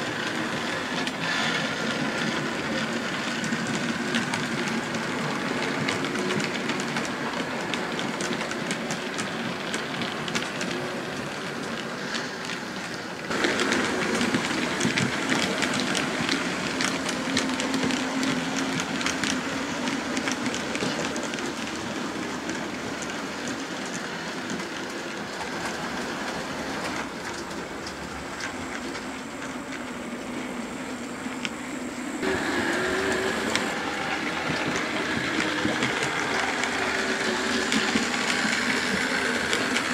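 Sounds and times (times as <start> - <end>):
model train whirring: 0.0 - 39.9
wheels clicking over rail joints: 0.0 - 39.9.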